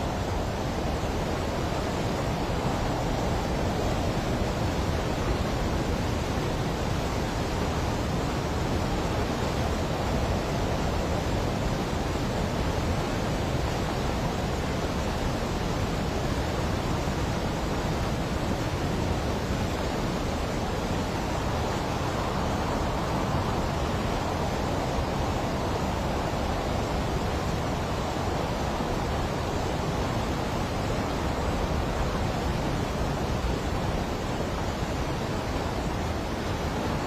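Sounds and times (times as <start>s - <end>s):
rushing water torrent: 0.0s - 37.0s.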